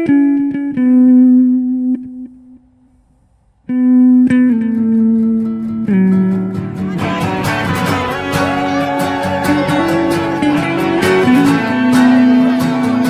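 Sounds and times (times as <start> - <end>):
slow guitar notes: 0.0 - 3.0, 3.7 - 13.0.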